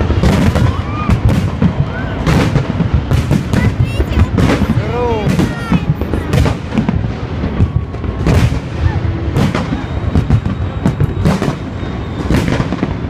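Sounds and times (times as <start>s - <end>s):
continuous rumble: 0.0s - 13.0s
firework cracks: 0.0s - 13.0s
firework shells booming: 0.0s - 13.0s.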